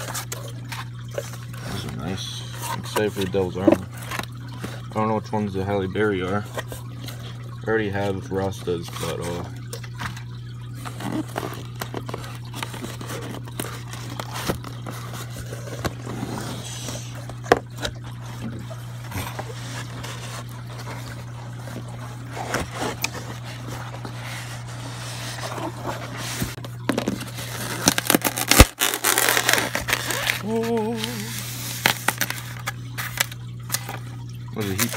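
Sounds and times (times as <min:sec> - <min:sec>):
styrofoam box scraping and rustling: 0:00.0 - 0:04.9, 0:10.8 - 0:34.0.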